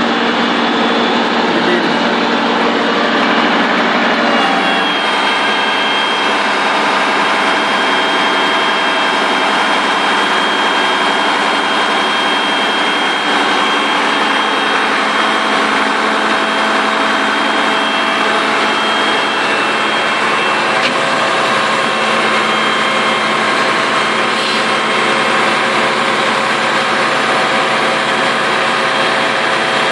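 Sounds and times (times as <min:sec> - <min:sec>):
steady high whine: 0:00.0 - 0:29.9
truck engine idling: 0:00.0 - 0:29.9.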